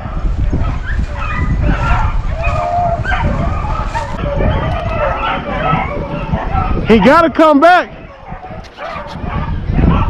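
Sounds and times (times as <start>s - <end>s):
distant dogs yelping: 0.0s - 10.0s
wind buffeting microphone: 0.0s - 10.0s.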